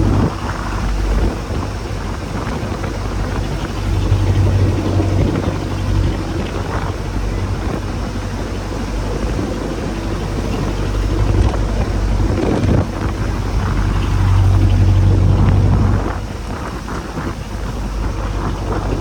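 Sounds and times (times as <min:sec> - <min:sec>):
boat engine humming: 0:00.0 - 0:19.0
sea noise: 0:00.0 - 0:19.0
wind: 0:00.0 - 0:19.0.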